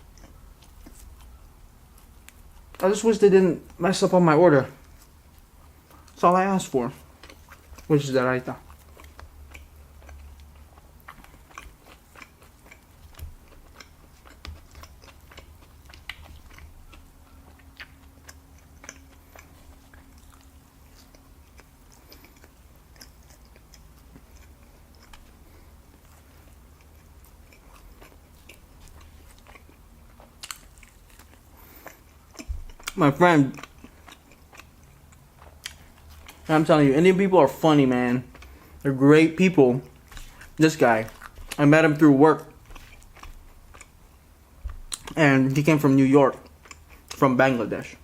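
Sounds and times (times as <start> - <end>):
person chewing food: 0.0 - 3.8, 4.7 - 47.2
steady low hum: 0.0 - 48.0.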